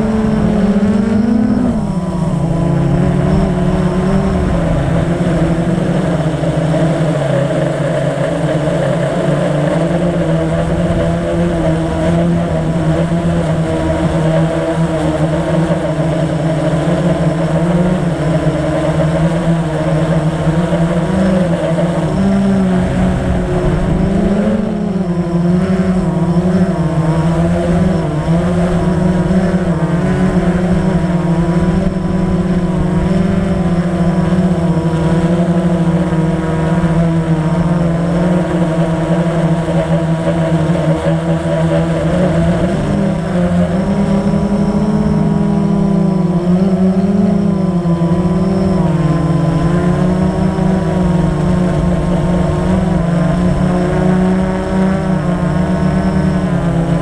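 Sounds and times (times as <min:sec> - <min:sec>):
quadcopter motors humming: 0:00.0 - 0:57.0.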